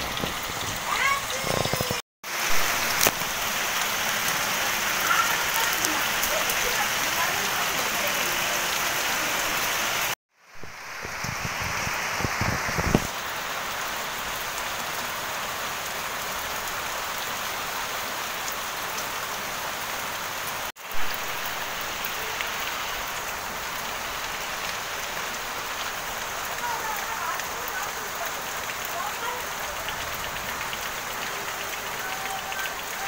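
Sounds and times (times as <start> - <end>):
water dripping from eaves: 0.0 - 10.2, 11.1 - 33.0
heavy rain on metal roofs: 0.0 - 33.0.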